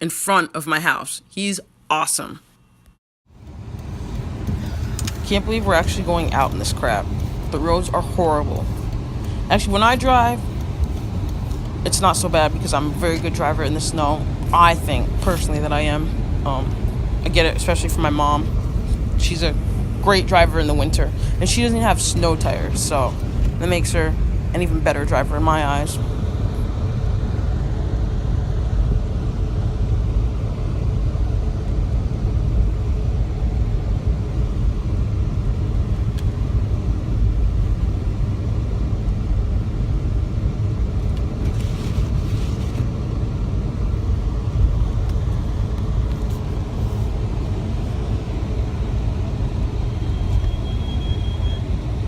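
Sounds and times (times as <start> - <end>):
car driving low rumble: 3.3 - 52.0.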